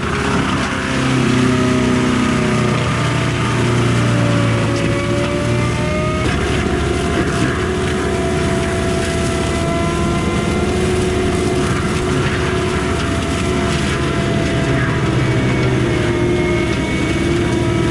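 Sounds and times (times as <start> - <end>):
diesel engine and hydraulics running: 0.0 - 17.9
hydraulic whine: 0.0 - 17.9.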